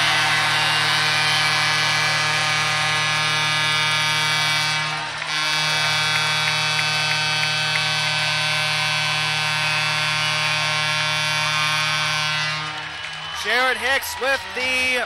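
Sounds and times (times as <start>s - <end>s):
loud steady hum: 0.0s - 14.0s.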